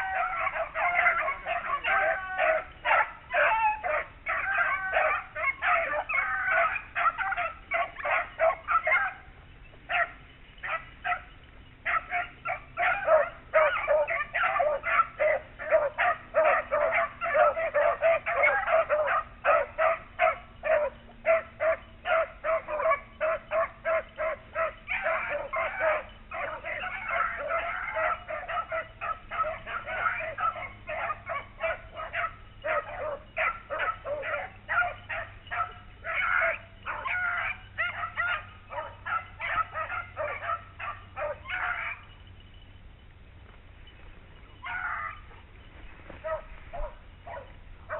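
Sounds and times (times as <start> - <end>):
hounds baying: 0.0 - 47.9.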